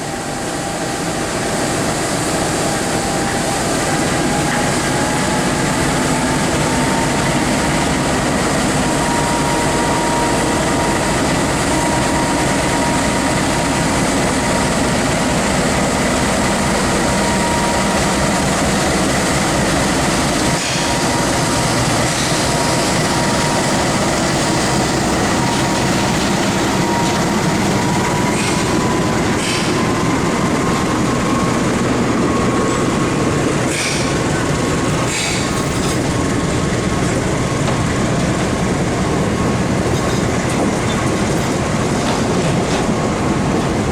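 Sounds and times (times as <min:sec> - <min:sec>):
train rumbling along track: 0:00.0 - 0:43.9.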